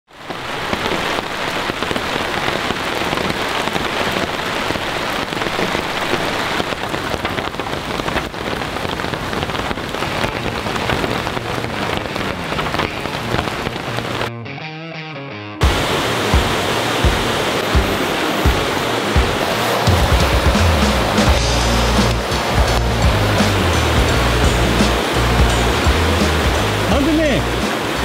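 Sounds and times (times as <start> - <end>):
rain falling: 0.1 - 14.3, 15.6 - 28.0.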